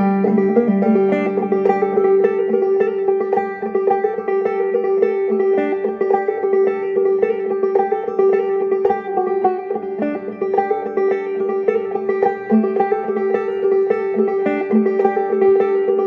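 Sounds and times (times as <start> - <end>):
banjo playing folk melody: 0.0 - 16.0.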